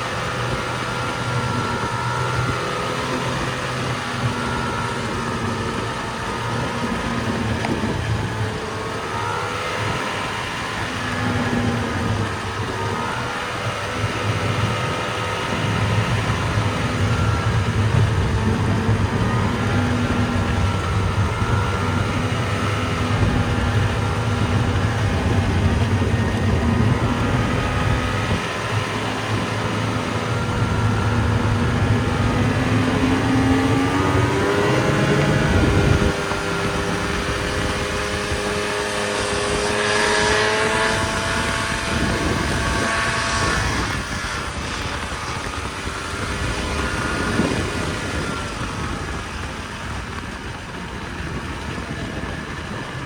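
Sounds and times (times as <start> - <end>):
snowmobile engine running: 0.0 - 53.0
steady rushing noise: 0.0 - 53.0.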